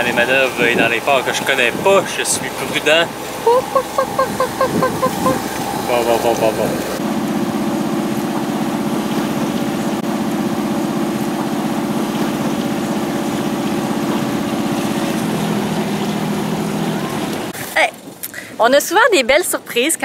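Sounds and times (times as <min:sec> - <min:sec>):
boat engine pulsing drone: 0:00.0 - 0:18.2.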